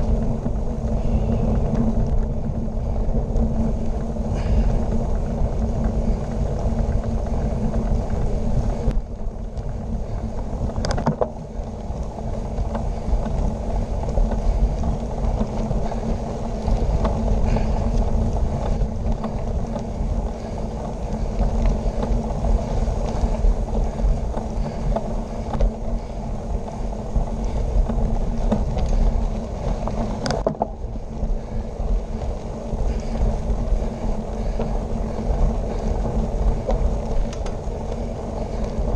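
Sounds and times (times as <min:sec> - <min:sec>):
bike tyres crunching on gravel: 0:00.0 - 0:38.9
wind buffeting microphone: 0:00.0 - 0:38.9.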